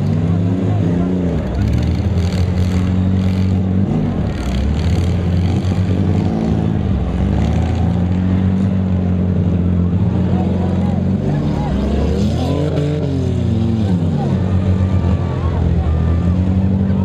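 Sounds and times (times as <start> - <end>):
car engines droning: 0.0 - 17.0
engine revving: 0.0 - 17.0.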